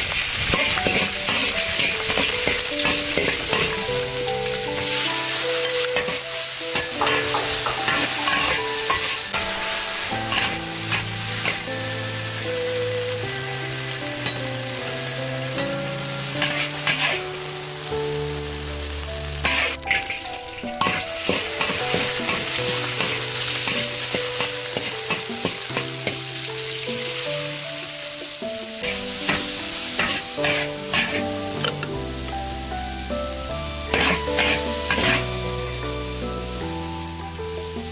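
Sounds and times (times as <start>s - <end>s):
food sizzling in a wok: 0.0s - 37.9s
melodic background tune: 0.5s - 37.9s.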